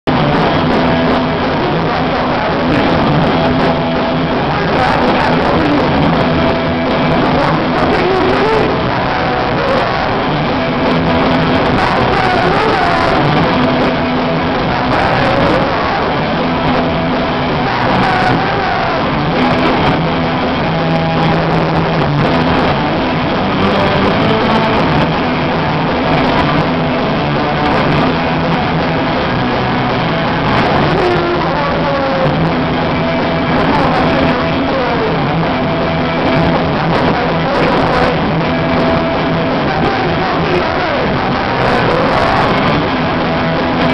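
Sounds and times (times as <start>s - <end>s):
punk rock band playing live: 0.1s - 43.9s.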